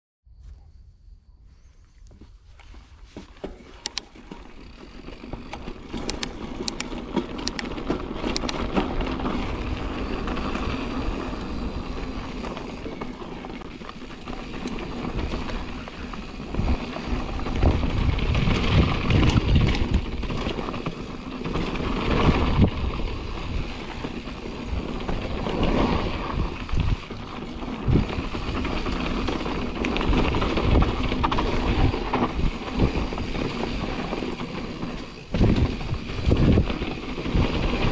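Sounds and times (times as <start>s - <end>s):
bike tyre and trail noise: 0.3s - 37.9s
bike rattles and clicks: 2.0s - 37.9s.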